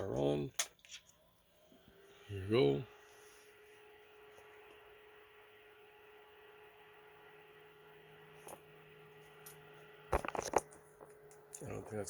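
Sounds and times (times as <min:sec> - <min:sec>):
three d printer electrical hum: 0:00.0 - 0:12.0.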